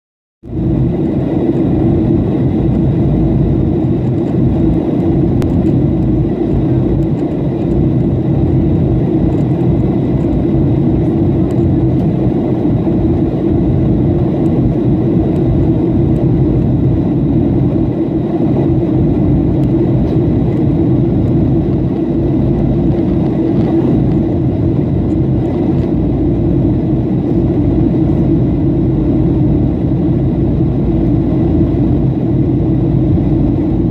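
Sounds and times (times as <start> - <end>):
airliner cabin rumble: 0.4 - 33.9.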